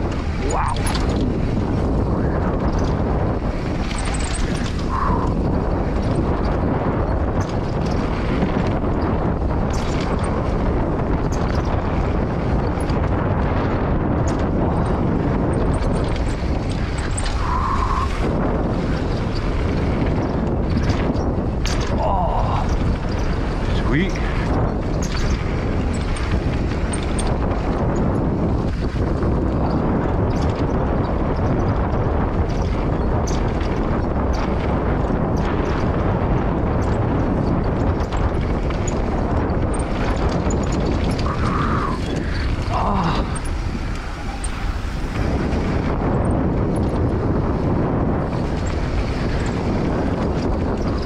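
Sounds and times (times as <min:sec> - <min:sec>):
bike clicks and rattles: 0:00.0 - 0:51.0
bike tyres rolling on dirt: 0:00.0 - 0:51.0
wind on microphone: 0:00.0 - 0:51.0.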